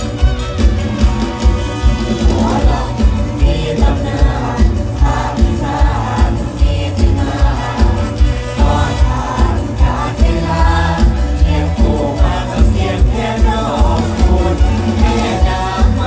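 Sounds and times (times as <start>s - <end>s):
band music through sound system: 0.0s - 16.0s
heavy bass drum beat: 0.0s - 16.0s.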